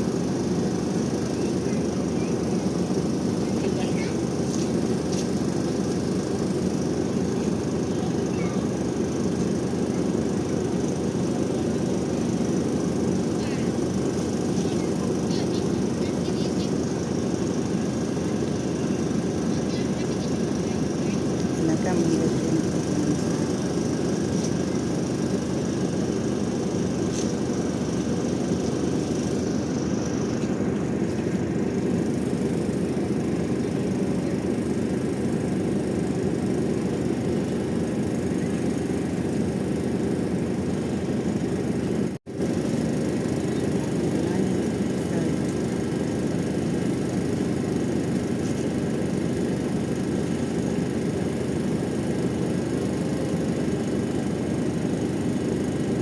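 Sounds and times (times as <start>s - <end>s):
engine rumble: 0.0s - 56.0s.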